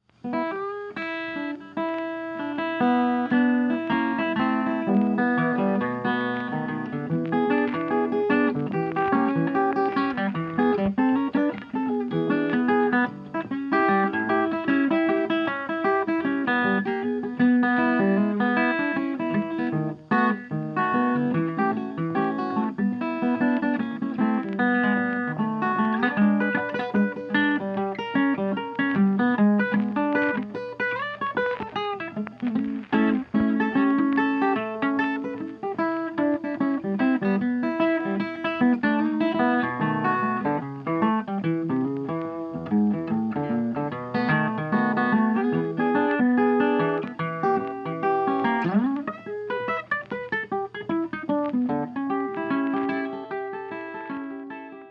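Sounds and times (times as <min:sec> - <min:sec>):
blues guitar music: 0:00.0 - 0:54.9.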